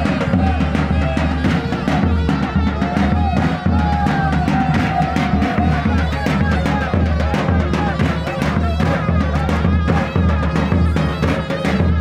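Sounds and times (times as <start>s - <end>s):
large drum beating rhythm: 0.0s - 12.0s
shrill reed pipe melody: 0.0s - 12.0s.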